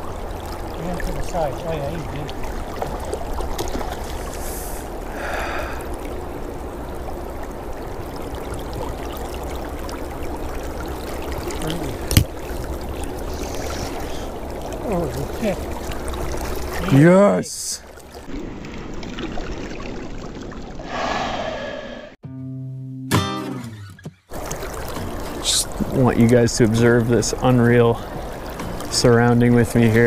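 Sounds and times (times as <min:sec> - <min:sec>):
river current gurgling: 0:00.0 - 0:22.2, 0:24.3 - 0:30.0.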